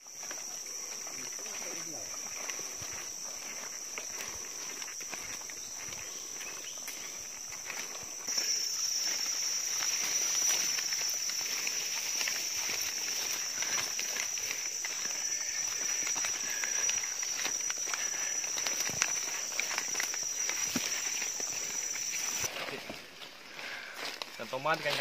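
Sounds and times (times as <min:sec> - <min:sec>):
footsteps: 0:00.0 - 0:25.0
insects droning: 0:00.0 - 0:25.0
rustling through undergrowth: 0:00.0 - 0:25.0.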